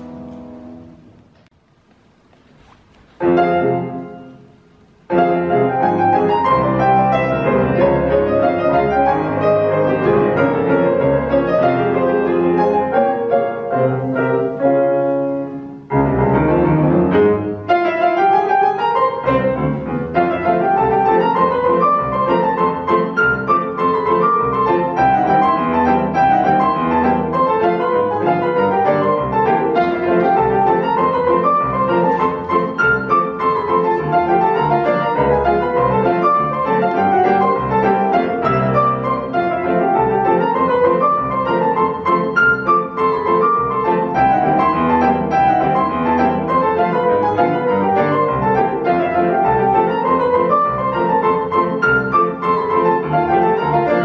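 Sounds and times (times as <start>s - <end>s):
grand piano played four hands: 0.0s - 54.0s.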